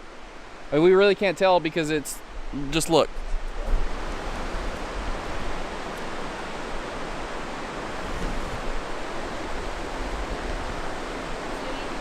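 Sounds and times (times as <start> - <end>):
fast-flowing water rushing: 0.0 - 12.0.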